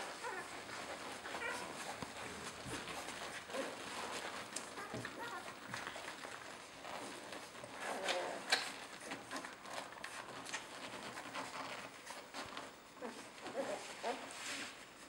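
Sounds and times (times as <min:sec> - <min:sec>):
puppies suckling and smacking: 0:00.0 - 0:15.0.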